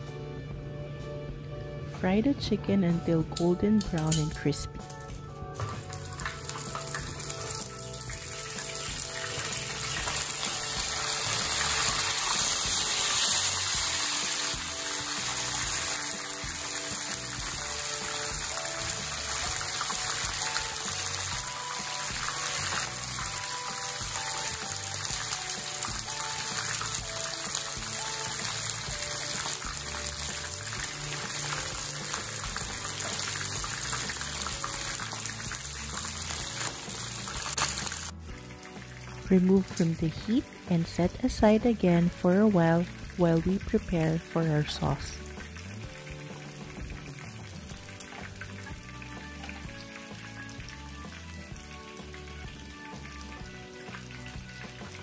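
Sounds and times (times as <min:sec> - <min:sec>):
chicken frying in hot oil: 0:05.5 - 0:55.0.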